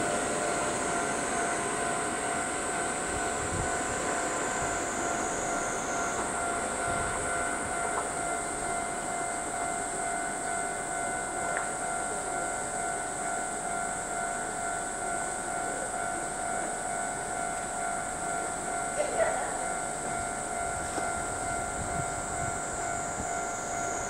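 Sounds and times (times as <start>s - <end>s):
constant train whine: 0.0s - 24.0s
train running: 0.0s - 24.0s.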